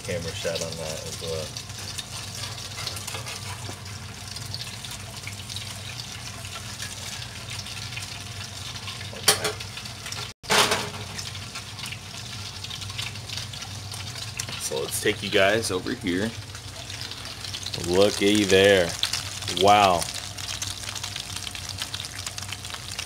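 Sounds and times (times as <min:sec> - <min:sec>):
crackling sizzle in a frying pan: 0:00.0 - 0:23.0.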